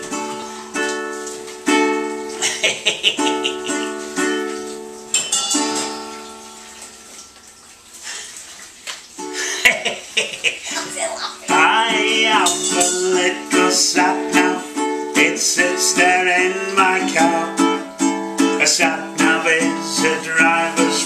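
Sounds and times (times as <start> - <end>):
ukulele strumming chords: 0.0 - 6.8, 10.8 - 21.0.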